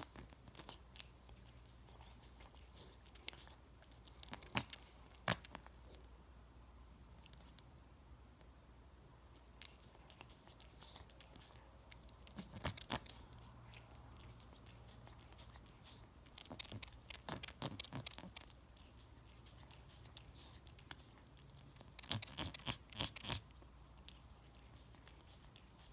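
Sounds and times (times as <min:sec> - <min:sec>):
cat licking its fur: 0:00.0 - 0:06.0, 0:09.3 - 0:25.9.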